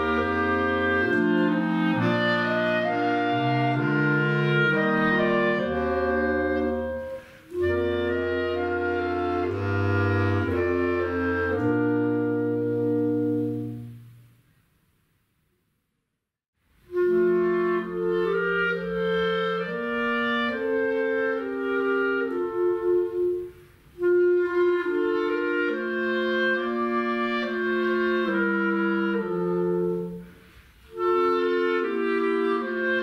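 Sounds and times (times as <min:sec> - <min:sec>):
clarinet quintet playing carol: 0:00.0 - 0:14.4, 0:16.8 - 0:33.0.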